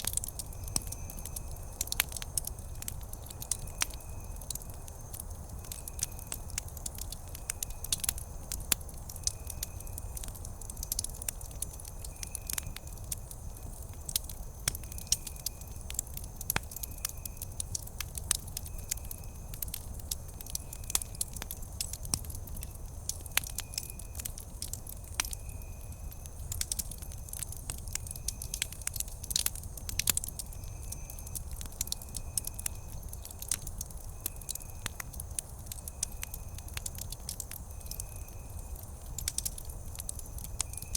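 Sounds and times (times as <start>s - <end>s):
campfire crackling and popping: 0.0s - 40.9s
low rumble of flames: 0.0s - 40.9s.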